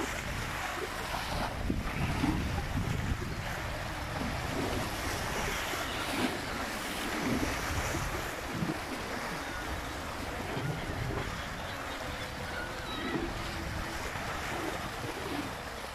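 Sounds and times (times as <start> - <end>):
waves splashing on rocks: 0.0 - 15.9
wind buffeting microphone: 0.0 - 15.9.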